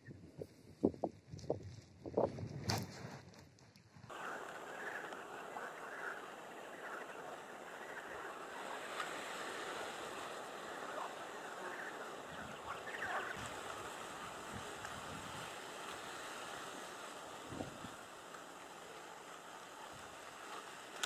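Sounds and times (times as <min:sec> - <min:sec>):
wind: 0:00.0 - 0:21.0
small waves lapping: 0:04.1 - 0:21.0.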